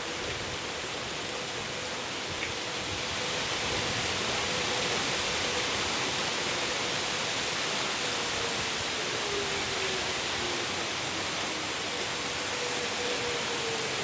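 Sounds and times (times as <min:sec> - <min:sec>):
distant warning siren: 0:00.0 - 0:14.0
heavy rain: 0:00.0 - 0:14.0
wind: 0:00.0 - 0:14.0.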